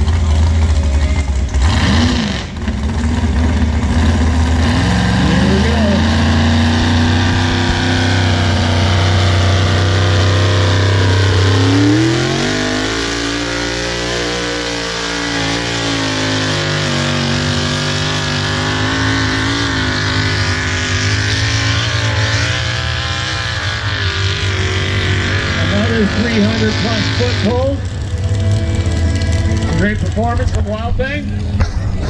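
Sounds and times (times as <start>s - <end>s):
pickup truck engine revving: 0.0s - 32.0s.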